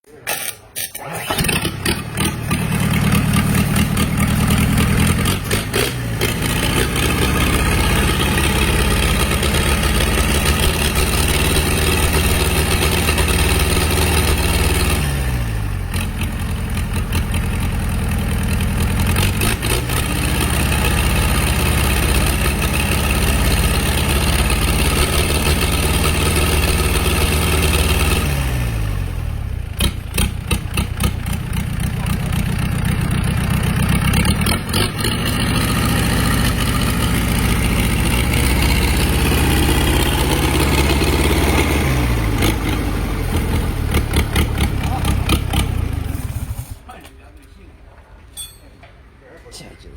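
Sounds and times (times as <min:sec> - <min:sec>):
diesel engine cranking and running: 0:00.2 - 0:46.9.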